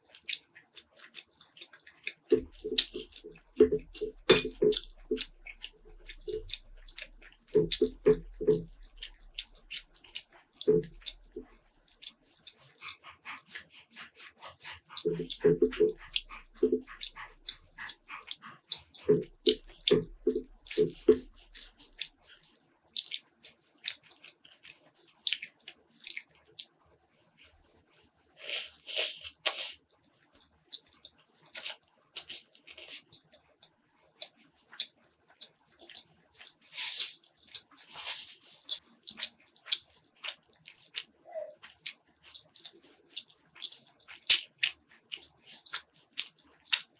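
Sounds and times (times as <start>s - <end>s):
chewing with wet mouth clicks: 0.0s - 46.9s.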